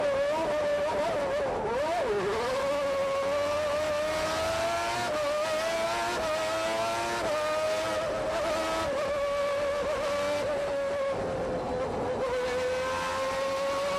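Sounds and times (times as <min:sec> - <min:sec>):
race car engine at high revs: 0:00.0 - 0:13.9.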